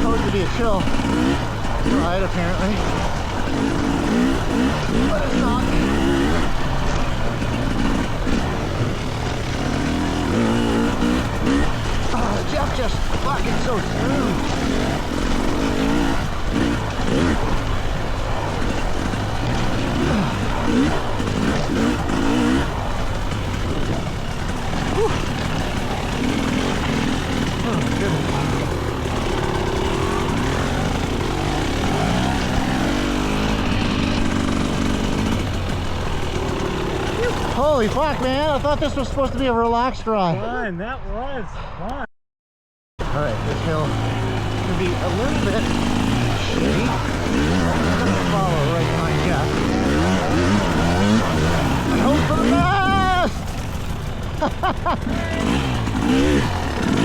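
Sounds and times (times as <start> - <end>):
dirt bike engine revving: 0.0 - 39.8, 43.0 - 57.0.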